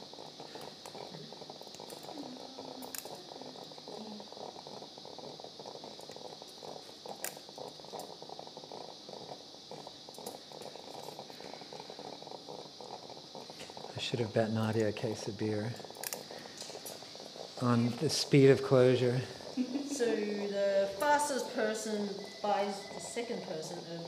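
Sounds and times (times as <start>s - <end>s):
high-pitched hiss: 0.0s - 24.0s
low crackly rustle: 0.1s - 24.0s.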